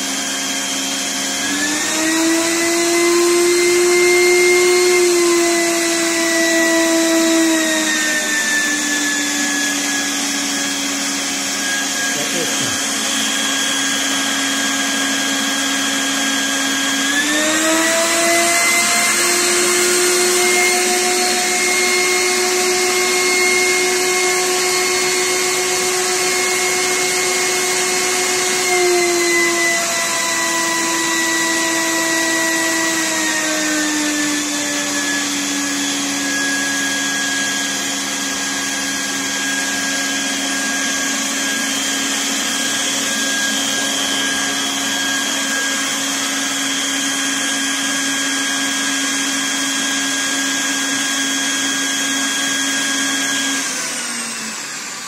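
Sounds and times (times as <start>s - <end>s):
vacuum motor whine: 0.0s - 55.0s.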